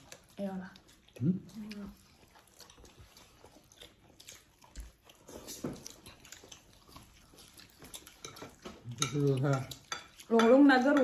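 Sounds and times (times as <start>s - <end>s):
chewing fried dough: 0.0s - 11.0s.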